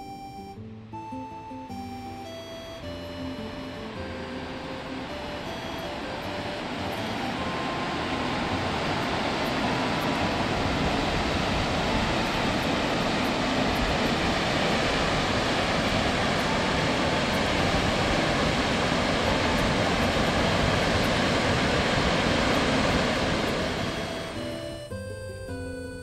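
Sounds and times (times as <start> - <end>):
loud steady rushing noise: 1.0 - 26.0.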